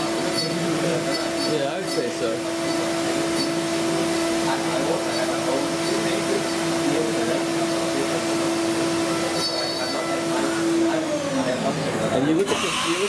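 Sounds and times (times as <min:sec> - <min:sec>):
milling machine cutting wood: 0:00.0 - 0:13.0.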